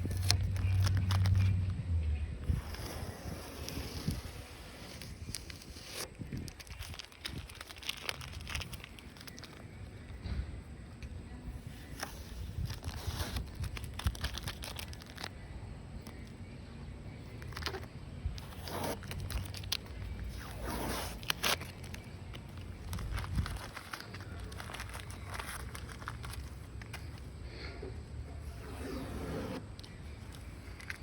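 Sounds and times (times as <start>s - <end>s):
rustling and crackling: 2.4s - 15.4s, 17.3s - 27.7s, 28.4s - 31.0s.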